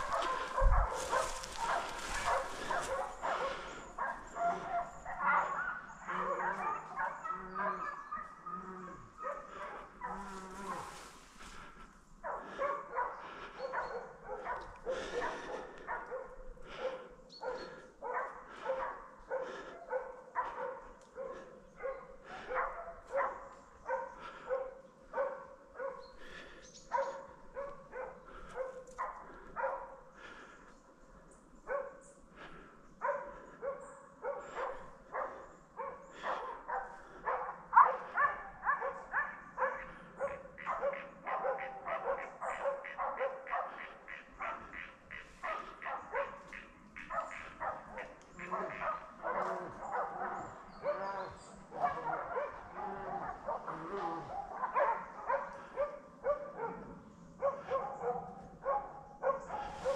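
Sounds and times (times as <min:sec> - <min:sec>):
dogs barking: 0:00.0 - 0:59.9.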